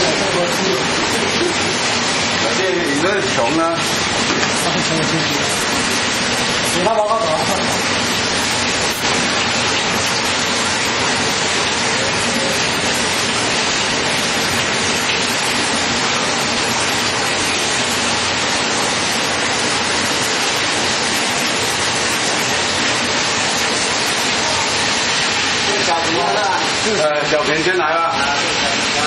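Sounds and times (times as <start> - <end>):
spraying water rush: 0.0 - 29.0.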